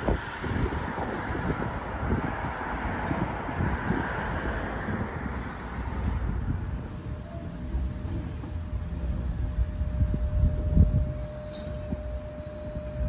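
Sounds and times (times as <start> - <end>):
tram running along track: 0.0 - 13.0
wind buffeting microphone: 0.0 - 13.0.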